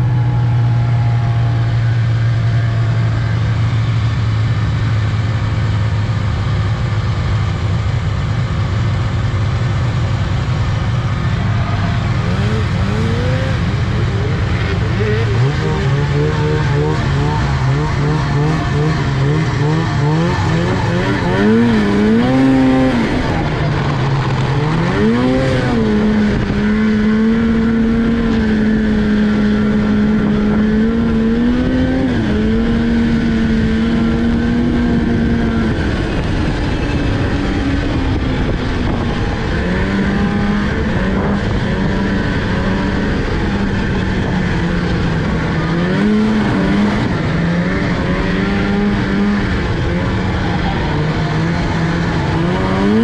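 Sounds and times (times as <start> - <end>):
snowmobile engine revving: 0.0 - 53.0
wind noise: 10.0 - 53.0.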